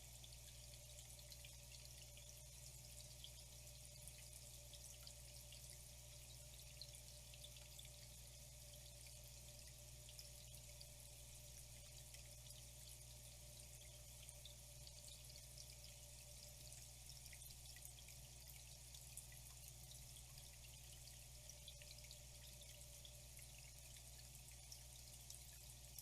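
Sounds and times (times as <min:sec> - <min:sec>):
low steady hum: 0:00.0 - 0:26.0
water trickling and dripping: 0:00.0 - 0:26.0.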